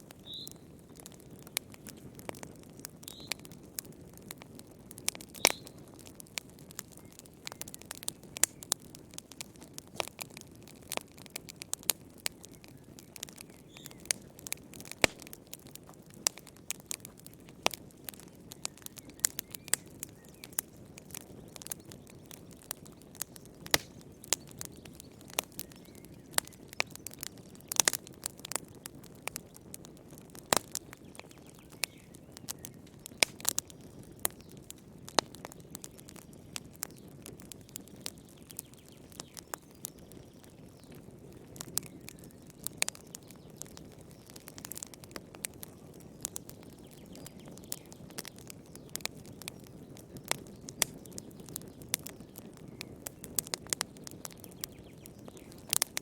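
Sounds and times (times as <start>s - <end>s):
fire pops and snaps: 0.0s - 56.0s
low rumble of flames: 0.0s - 56.0s.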